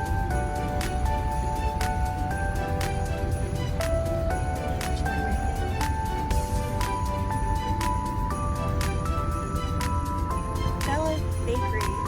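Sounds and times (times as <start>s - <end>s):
melody of held notes: 0.0s - 12.0s.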